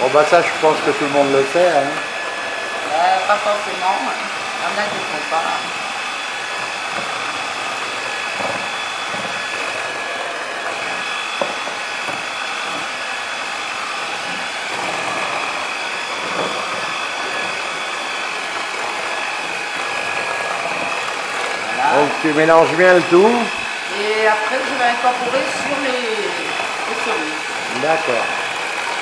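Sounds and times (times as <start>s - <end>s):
electric hand mixer whisking: 0.0s - 29.0s.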